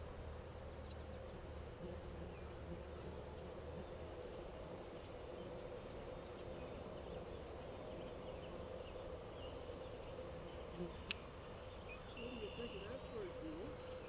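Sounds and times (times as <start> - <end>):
insects buzzing: 0.6 - 14.0.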